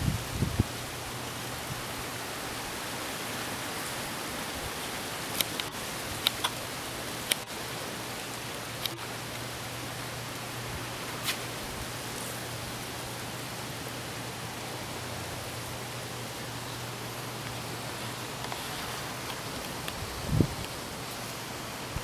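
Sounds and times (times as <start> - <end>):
sea surf washing on beach: 0.0 - 22.0.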